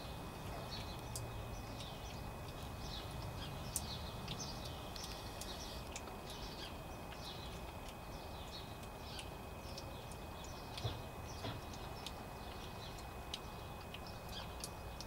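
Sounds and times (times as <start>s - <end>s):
low background hiss: 0.0s - 15.0s
small birds chirping: 0.0s - 15.0s.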